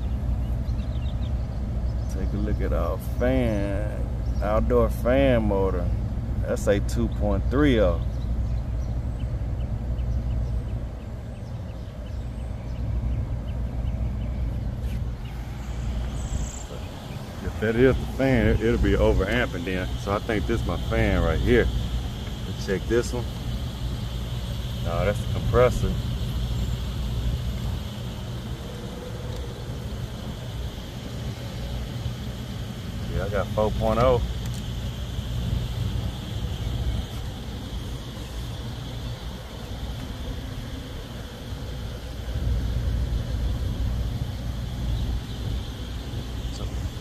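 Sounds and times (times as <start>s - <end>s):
air conditioner unit humming: 0.0s - 47.0s.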